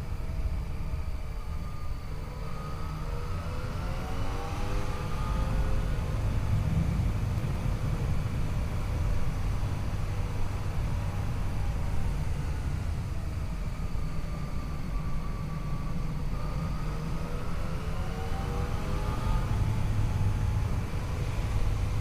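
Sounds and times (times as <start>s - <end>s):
low wind rush: 0.0s - 22.0s.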